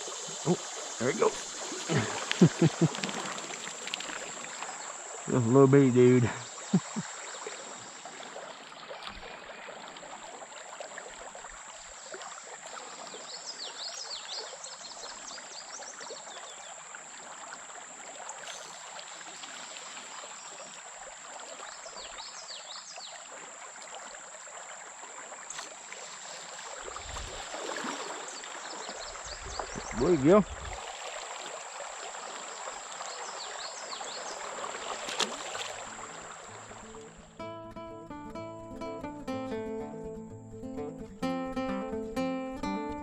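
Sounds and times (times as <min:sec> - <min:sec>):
creek water running: 0:00.0 - 0:43.0.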